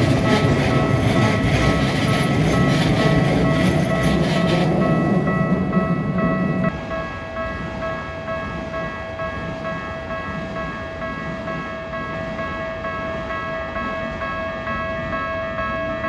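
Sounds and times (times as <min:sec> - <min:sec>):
level crossing alarm bell: 0:00.0 - 0:16.0
passing train rumble: 0:00.0 - 0:16.0.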